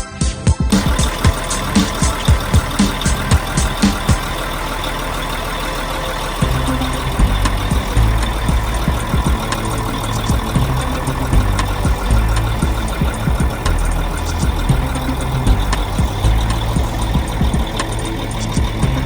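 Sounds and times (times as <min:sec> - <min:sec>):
large engine running: 0:00.7 - 0:19.0.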